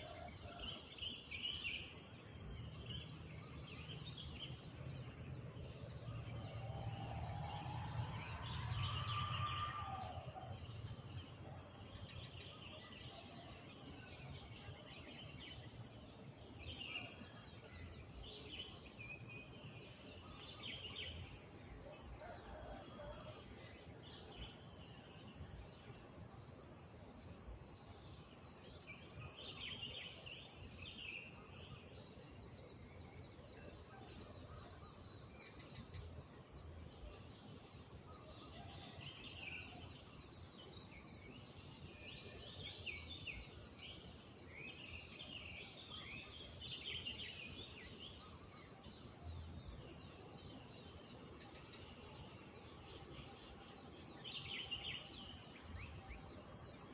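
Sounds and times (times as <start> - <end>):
insects droning: 0.0 - 56.9.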